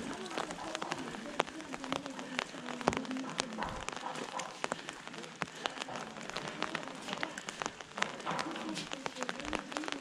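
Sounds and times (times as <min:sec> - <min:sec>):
rain drops tapping on umbrella: 0:00.0 - 0:10.0
steady hiss of rain: 0:00.0 - 0:10.0.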